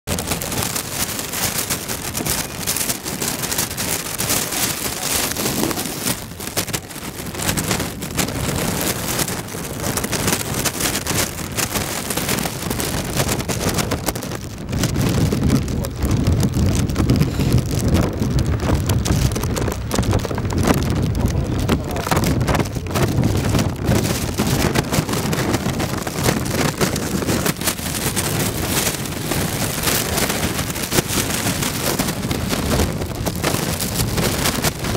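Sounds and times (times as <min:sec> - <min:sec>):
wind buffeting the microphone: 0:00.0 - 0:34.9.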